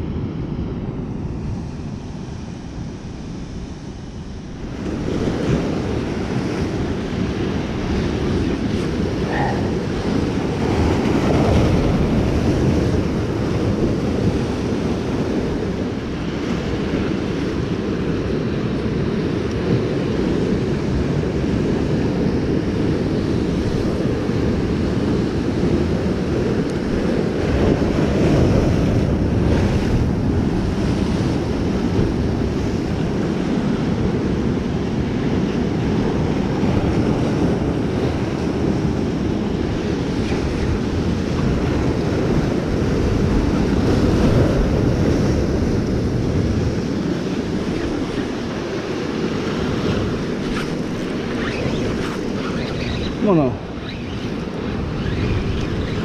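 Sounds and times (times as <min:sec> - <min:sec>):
ocean surf breaking over rocks: 0:00.0 - 0:56.0
wind buffeting microphone: 0:00.0 - 0:56.0.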